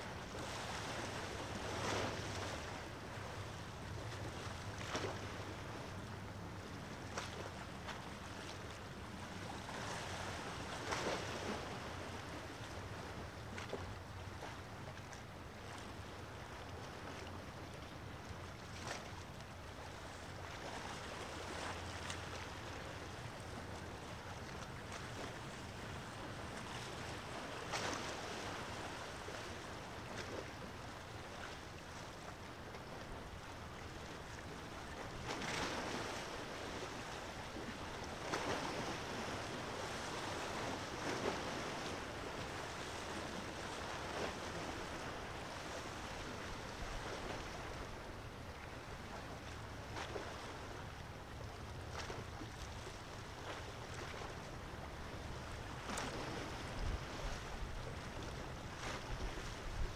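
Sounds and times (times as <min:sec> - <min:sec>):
low rumble of wind: 0:00.0 - 0:59.9
small waves washing on shore: 0:00.0 - 0:59.9.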